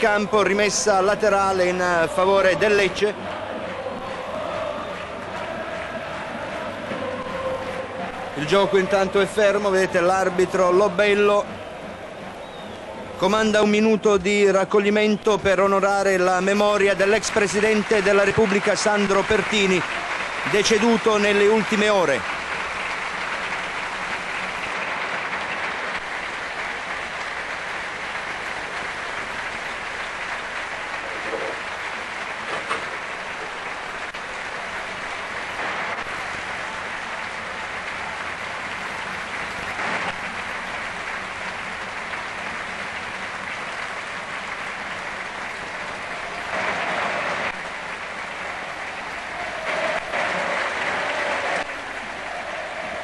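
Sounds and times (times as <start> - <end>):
stadium crowd applauding: 0.0 - 53.0.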